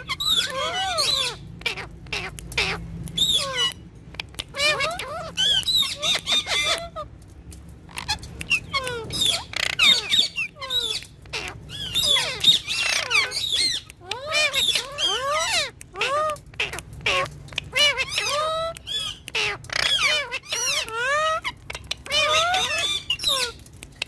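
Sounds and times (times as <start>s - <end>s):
parrot chirping: 0.0s - 7.2s, 7.8s - 24.0s.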